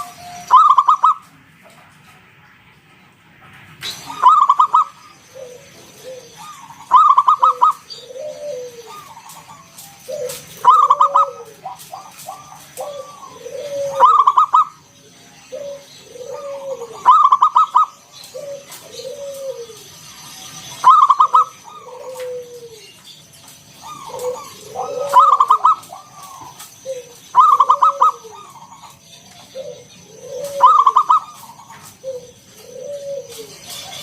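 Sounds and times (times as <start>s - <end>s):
dove cooing: 0.0s - 1.4s, 3.9s - 34.0s.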